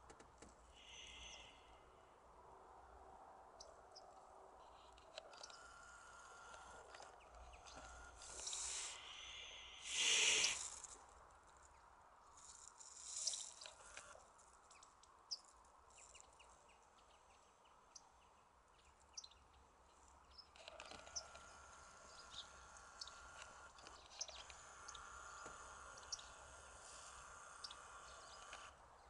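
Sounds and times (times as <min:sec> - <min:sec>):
small songbirds chirping: 0:00.7 - 0:02.2, 0:03.5 - 0:11.0, 0:11.6 - 0:29.0.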